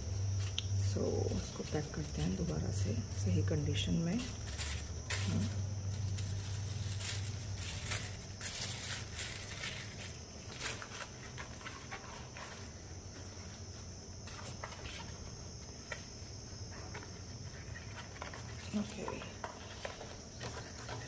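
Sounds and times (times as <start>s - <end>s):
tissue paper and card rustling: 0.0s - 21.0s.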